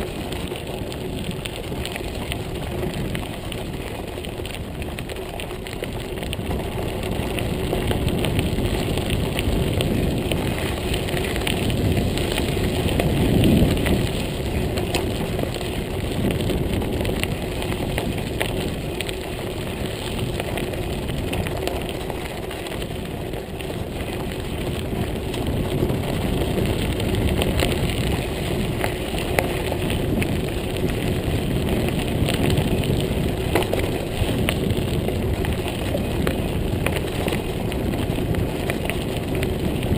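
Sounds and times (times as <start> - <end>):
bike tyres crunching on gravel: 0.0 - 39.9.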